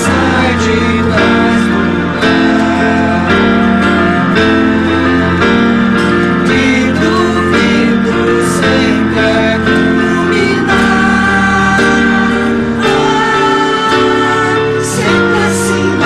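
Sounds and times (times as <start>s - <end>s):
electric guitar: 0.0s - 16.0s
keyboard: 0.0s - 16.0s
person singing: 0.0s - 16.0s
strummed acoustic guitars: 0.0s - 16.0s.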